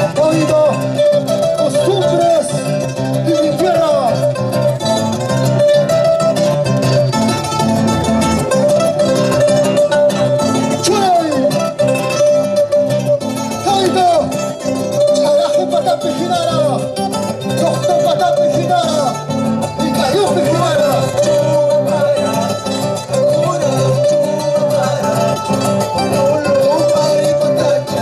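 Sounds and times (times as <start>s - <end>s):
folk dance music on plucked strings: 0.0s - 28.0s.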